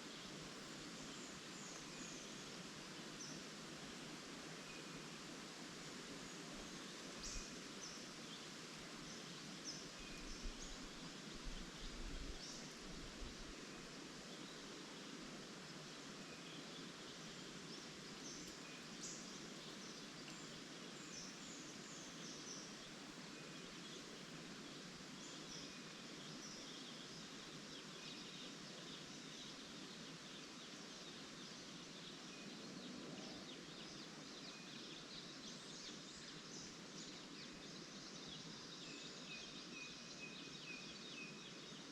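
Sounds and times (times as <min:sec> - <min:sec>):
leaves rustling in wind: 0:00.0 - 0:41.9.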